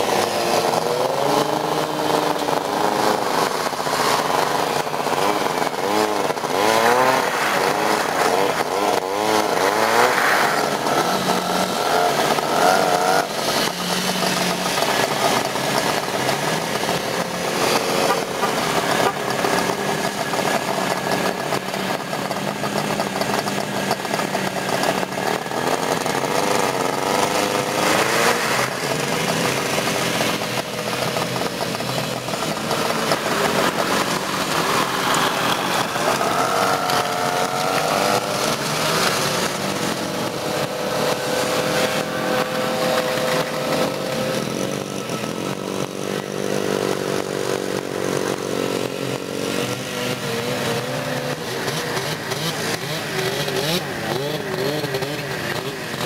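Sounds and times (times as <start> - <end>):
snowmobile engines revving: 0.0 - 56.0.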